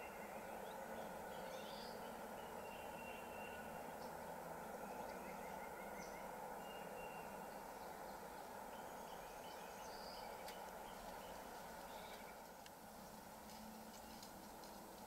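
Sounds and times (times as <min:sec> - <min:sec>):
faint outdoor background noise: 0:00.0 - 0:15.0
small birds chirping: 0:00.0 - 0:15.0.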